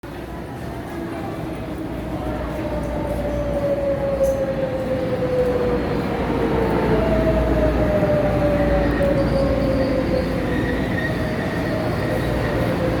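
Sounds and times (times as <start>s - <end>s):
train rumbling: 0.0s - 13.0s
train whine: 0.1s - 13.0s.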